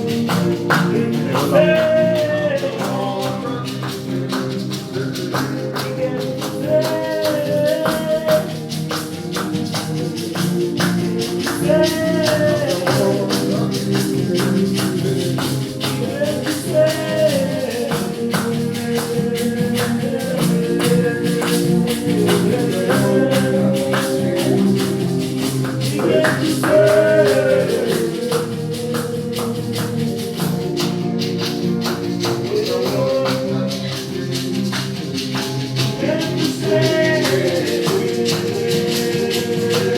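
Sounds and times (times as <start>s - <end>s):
tambourine beat: 0.0s - 39.9s
voices singing: 0.0s - 39.9s.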